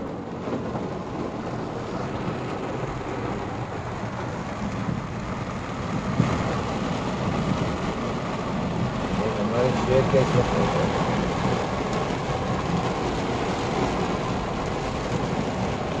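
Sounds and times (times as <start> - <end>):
car rumbling on road: 0.0 - 16.0
heavy rain on car roof: 0.0 - 16.0.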